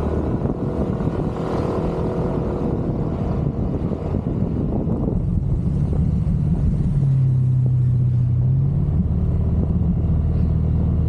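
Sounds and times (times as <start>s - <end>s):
wind and road rumble: 0.0s - 11.0s.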